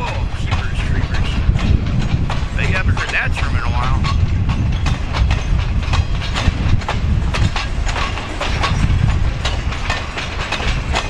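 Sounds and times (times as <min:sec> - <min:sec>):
steel wheels clicking on track: 0:00.0 - 0:11.0
train rumble: 0:00.0 - 0:11.0.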